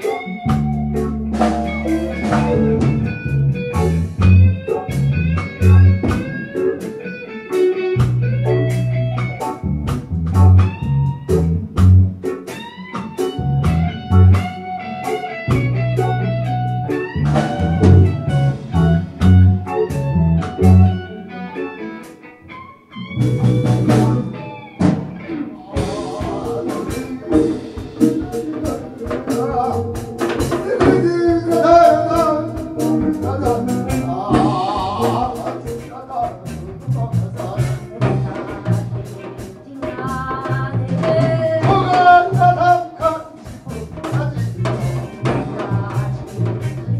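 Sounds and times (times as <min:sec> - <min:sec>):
fast busy drum pattern: 0:00.0 - 0:21.1, 0:23.2 - 0:46.9
electric bass line: 0:00.0 - 0:21.4, 0:22.5 - 0:46.9
fusion band with traditional instruments: 0:00.0 - 0:46.9.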